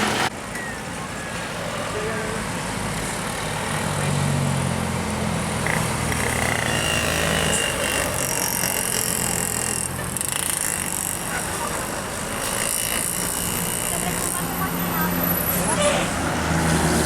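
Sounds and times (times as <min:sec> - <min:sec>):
bus engine passing: 0:00.0 - 0:17.0.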